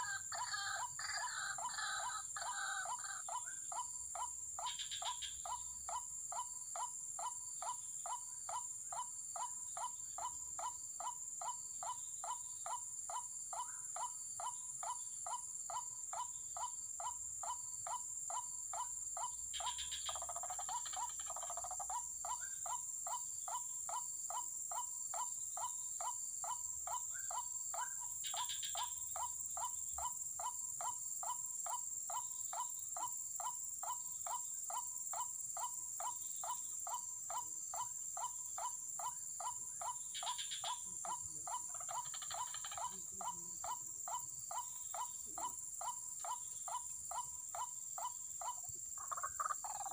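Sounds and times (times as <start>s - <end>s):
high insect drone: 0.0s - 49.9s.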